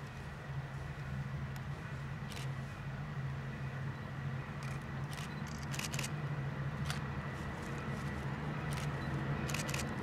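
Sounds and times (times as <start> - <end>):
railcar engine and wheel drone: 0.0 - 10.0.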